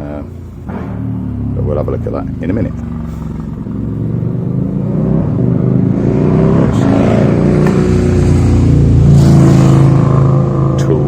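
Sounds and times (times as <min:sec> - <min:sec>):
motorcycle revving without exhaust: 0:00.0 - 0:11.0.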